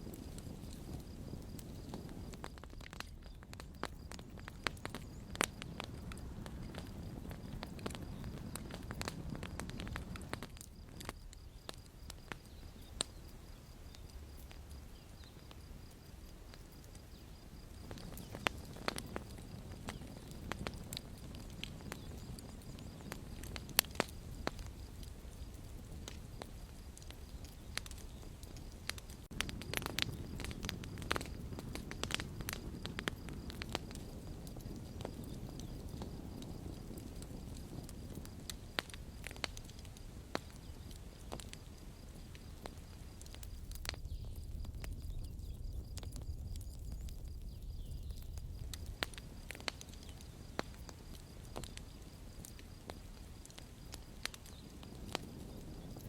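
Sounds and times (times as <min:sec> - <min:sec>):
campfire crackling and popping: 0:00.0 - 0:56.0
low rumble of burning: 0:00.0 - 0:56.0.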